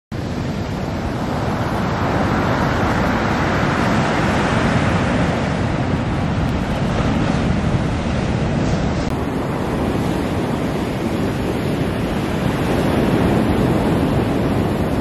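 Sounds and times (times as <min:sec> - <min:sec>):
surf washing onto shore: 0:00.2 - 0:15.0
wind on microphone: 0:00.2 - 0:15.0.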